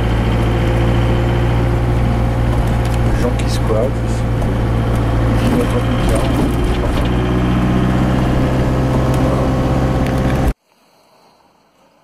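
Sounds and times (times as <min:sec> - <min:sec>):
vehicle engine and road noise: 0:00.0 - 0:10.6.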